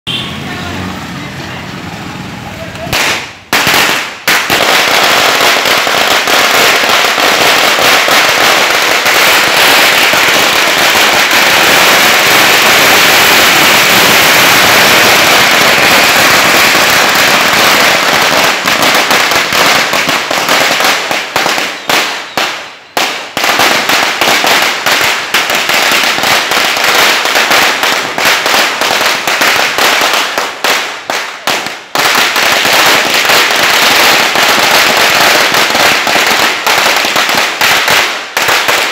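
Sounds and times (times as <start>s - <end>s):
firecrackers banging: 0.1s - 38.9s.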